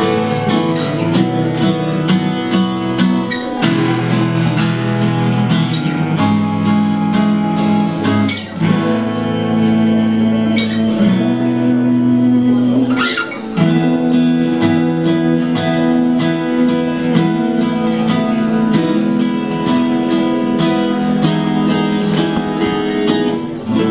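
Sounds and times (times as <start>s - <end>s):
acoustic guitar playing chords: 0.0s - 23.9s.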